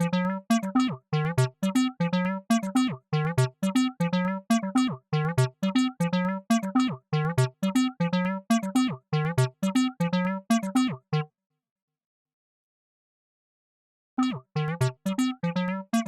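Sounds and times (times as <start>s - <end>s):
synthesizer bass line: 0.0s - 11.2s, 14.2s - 16.0s.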